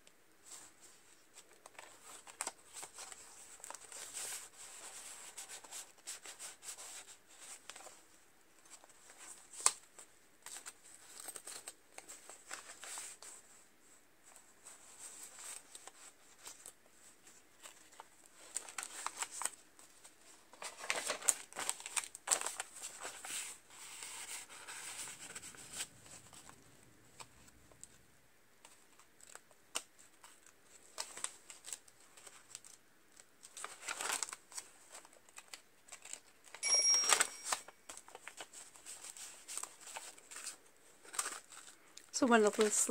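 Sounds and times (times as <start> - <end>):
paper pages rustling: 0.4 - 42.9.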